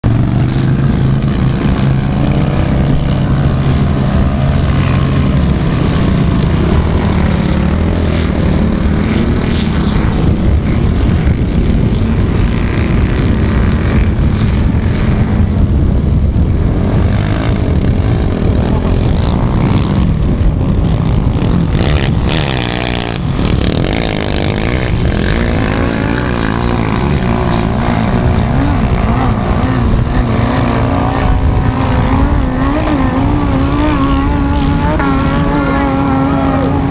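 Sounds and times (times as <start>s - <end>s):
rough noisy rumble: 0.0s - 36.9s
vehicle engine running loudly: 0.0s - 36.9s.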